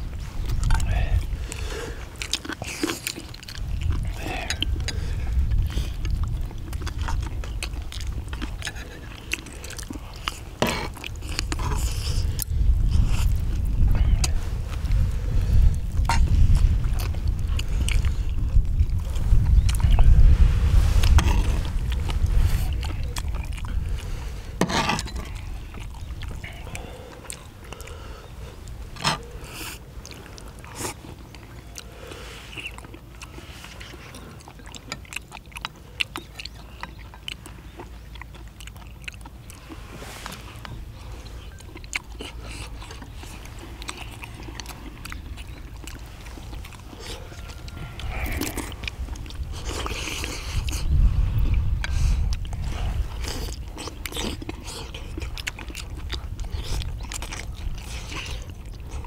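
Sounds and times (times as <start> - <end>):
low steady rumble: 0.0 - 59.0
people chewing: 0.0 - 59.0.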